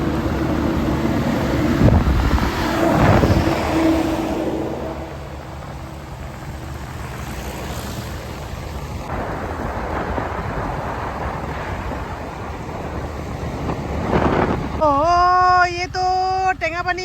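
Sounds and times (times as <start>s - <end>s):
scooter engine and road noise: 0.0s - 17.0s
wind buffeting microphone: 0.0s - 17.0s.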